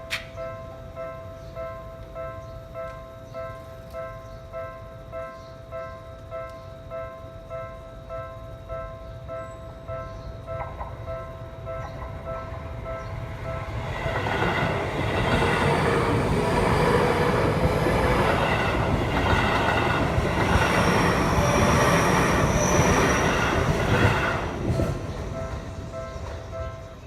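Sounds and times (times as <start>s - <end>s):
crossing warning bell ringing: 0.0s - 27.0s
train rumble and wheel noise: 0.0s - 27.0s.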